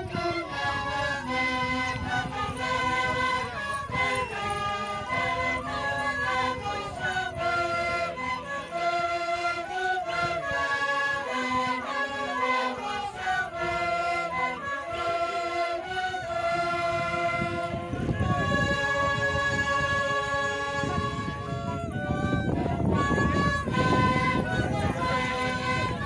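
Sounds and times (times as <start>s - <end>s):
group singing in chorus: 0.0s - 21.3s, 22.9s - 26.0s.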